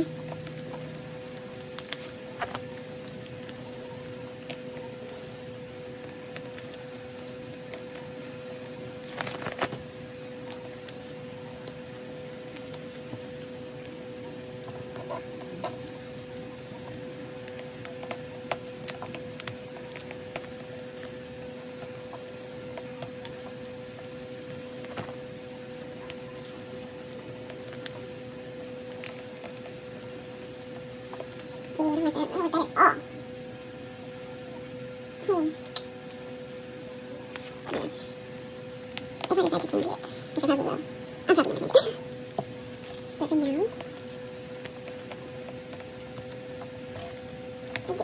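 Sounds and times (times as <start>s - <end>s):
steady electrical hum: 0.0s - 48.0s.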